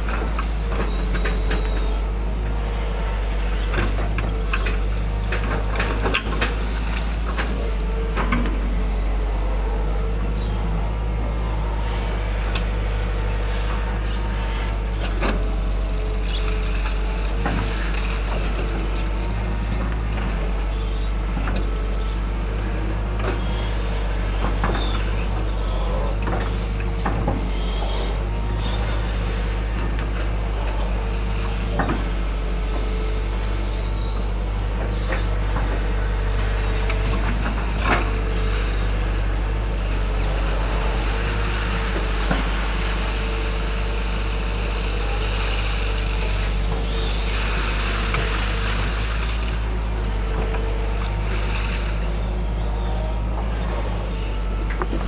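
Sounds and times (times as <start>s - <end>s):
excavator diesel engine hum: 0.0s - 55.0s
hydraulic whine: 0.0s - 55.0s.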